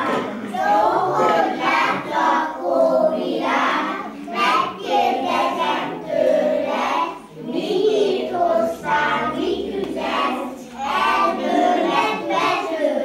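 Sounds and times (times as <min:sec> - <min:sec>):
children singing: 0:00.0 - 0:13.0.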